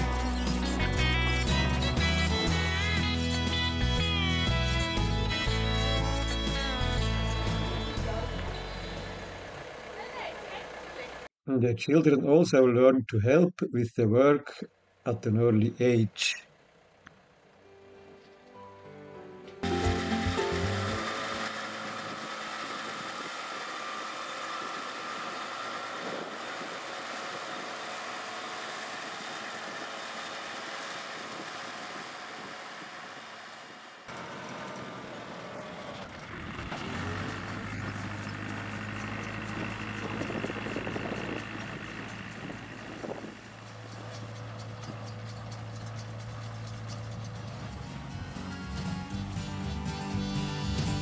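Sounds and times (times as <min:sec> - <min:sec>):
farm machine engine running: 0:00.0 - 0:11.3, 0:19.6 - 0:51.0.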